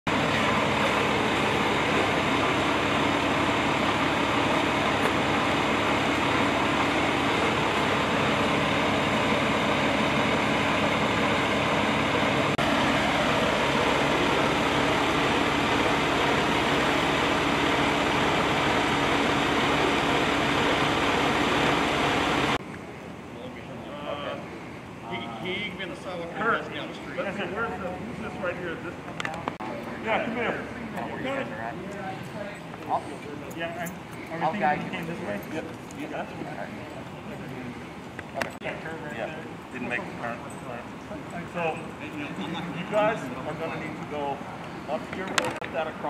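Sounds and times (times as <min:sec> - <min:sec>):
vehicle engines idling: 0:00.1 - 0:46.0.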